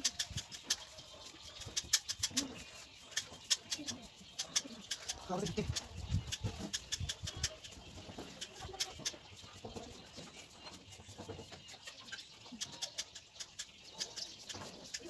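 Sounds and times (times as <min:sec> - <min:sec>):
hands scraping loose soil: 0:00.0 - 0:15.0.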